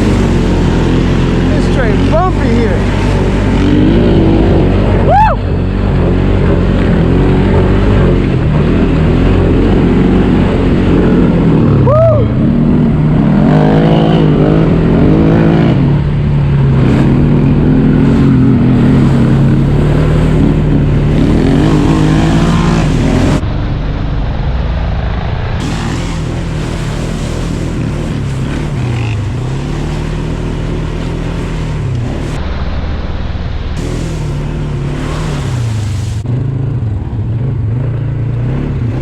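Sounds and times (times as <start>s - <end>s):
off-road vehicle engine revving: 0.0s - 23.5s, 25.6s - 32.5s, 33.8s - 39.0s.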